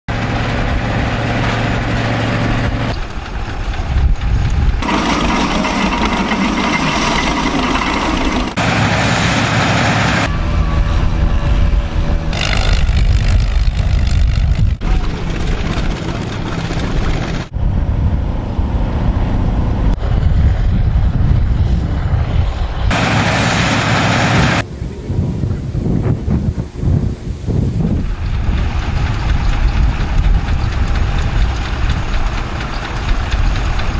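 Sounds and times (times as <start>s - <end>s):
tractor engines running: 0.1s - 20.6s, 22.9s - 25.2s, 27.8s - 33.9s.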